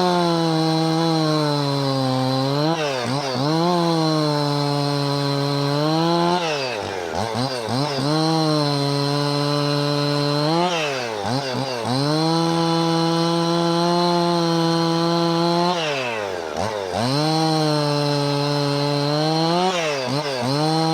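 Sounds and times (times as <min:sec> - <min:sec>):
chainsaw running at high revs: 0:00.0 - 0:20.9.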